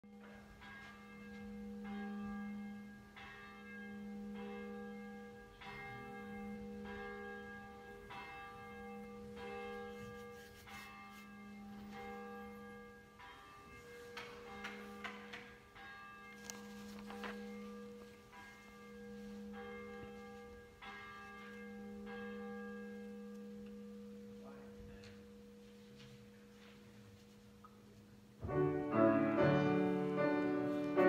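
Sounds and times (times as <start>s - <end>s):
church bell tolling: 0.0s - 27.4s, 28.4s - 31.0s.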